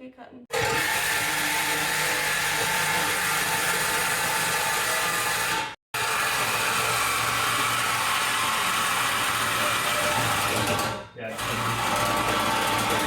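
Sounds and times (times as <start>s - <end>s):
reciprocating saw cutting metal pipe: 0.5s - 13.0s.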